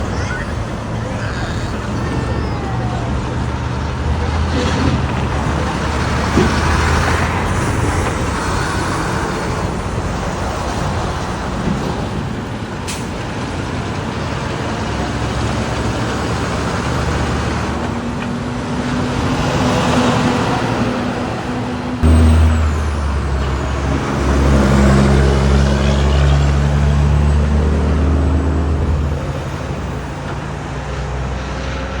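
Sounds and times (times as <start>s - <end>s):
diesel truck engine drone: 0.0s - 32.0s
road traffic: 0.0s - 32.0s.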